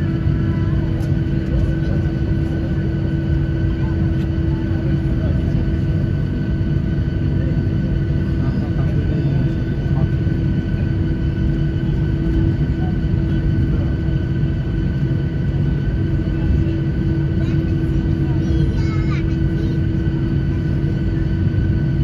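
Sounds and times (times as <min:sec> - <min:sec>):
airliner cabin rumble and whine: 0:00.0 - 0:22.0.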